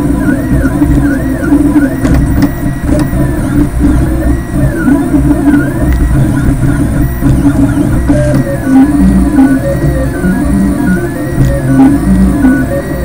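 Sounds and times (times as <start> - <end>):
steady low hum: 0.0 - 13.0
stepper motors whining: 0.0 - 13.0.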